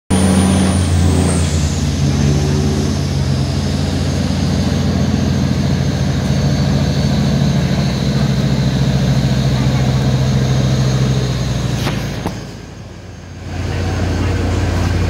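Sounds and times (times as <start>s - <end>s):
tugboat diesel engines droning: 0.1s - 15.0s.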